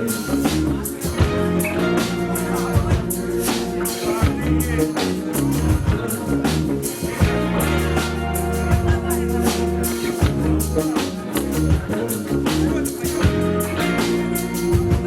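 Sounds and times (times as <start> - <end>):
drums: 0.0 - 15.0
guitar: 0.0 - 15.0
live band playing: 0.0 - 15.0.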